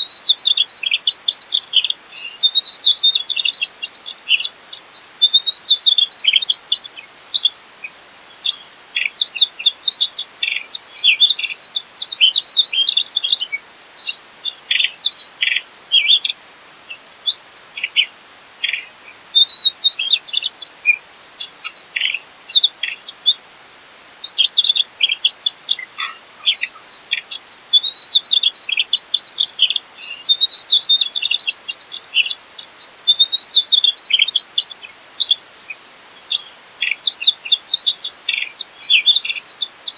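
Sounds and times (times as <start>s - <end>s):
flycatcher singing high chirps and trills: 0.0s - 39.9s.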